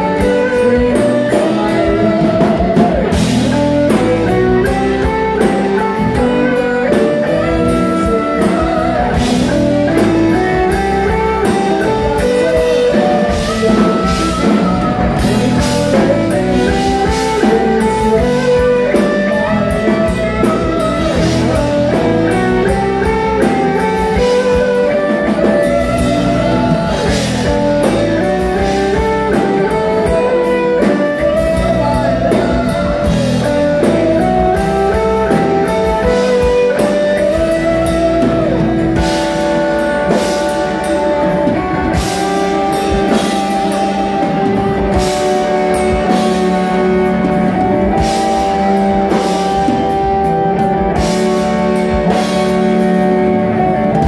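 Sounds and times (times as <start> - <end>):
bass guitar: 0.0 - 54.0
drum kit: 0.0 - 54.0
electric guitar melody: 0.0 - 54.0.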